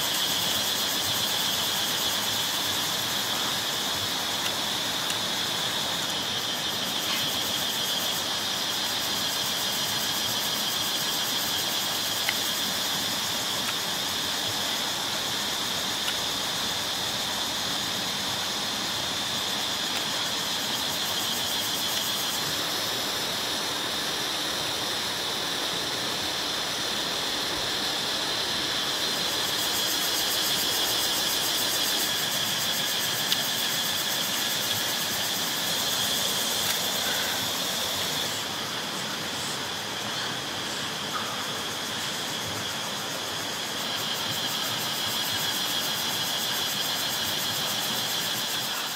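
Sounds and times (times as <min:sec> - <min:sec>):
forest insects buzzing: 0:00.0 - 0:48.9.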